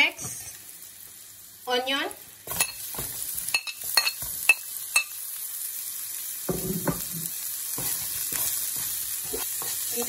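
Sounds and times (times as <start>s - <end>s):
onion sizzling in hot oil: 0.0s - 10.0s.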